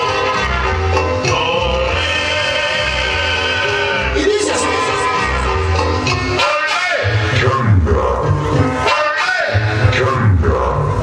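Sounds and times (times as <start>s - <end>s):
loud latin dance music: 0.0s - 11.0s.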